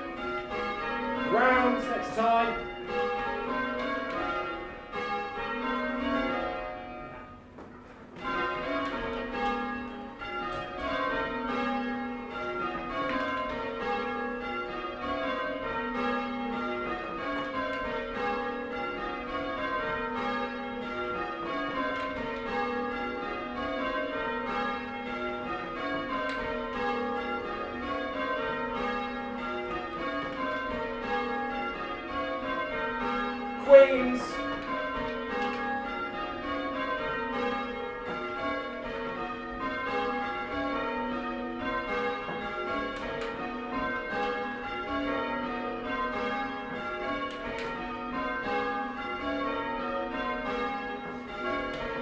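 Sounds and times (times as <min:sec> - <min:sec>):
church bells ringing in rounds: 0:00.0 - 0:52.0.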